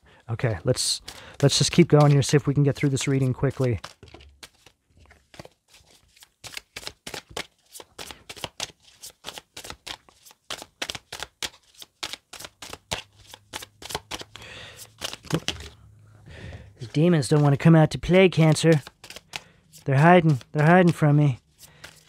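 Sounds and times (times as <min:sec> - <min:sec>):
cards being shuffled: 0:00.6 - 0:15.8, 0:16.8 - 0:22.0.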